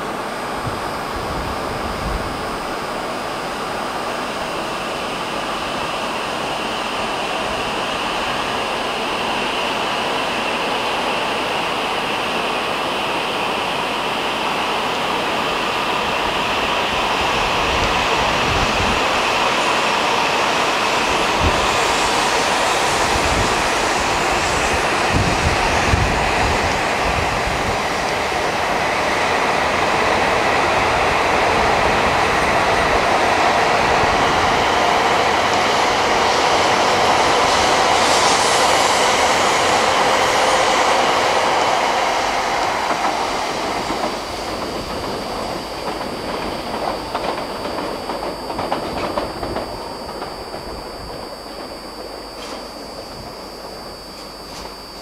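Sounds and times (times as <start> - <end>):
train wheels rushing on rail: 0.0 - 55.0.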